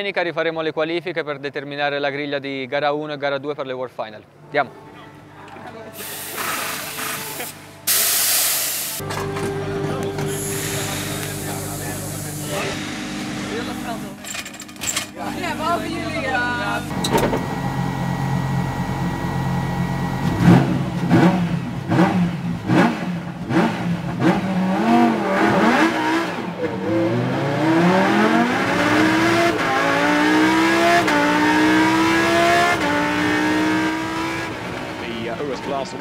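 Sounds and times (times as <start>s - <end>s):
race car engine revving: 6.1s - 36.0s.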